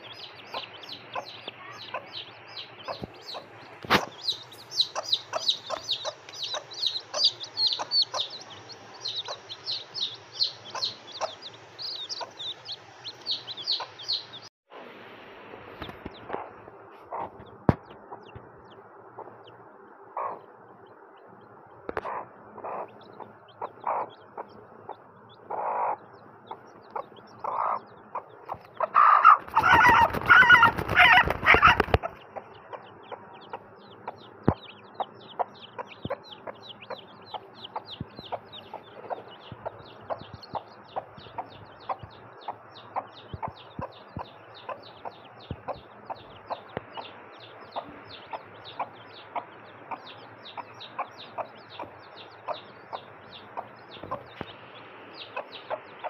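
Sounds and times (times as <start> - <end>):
chicks peeping: 0.0 - 14.5, 15.7 - 56.0
hen clucking: 0.0 - 14.5, 15.8 - 56.0.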